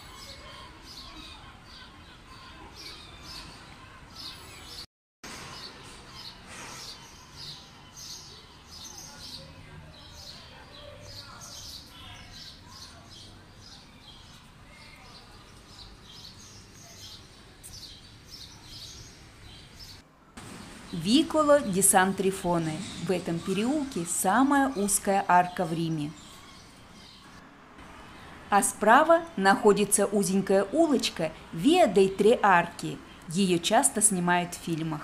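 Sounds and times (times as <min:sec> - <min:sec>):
small birds chirping: 0:00.0 - 0:35.0
low street hum: 0:05.3 - 0:35.0.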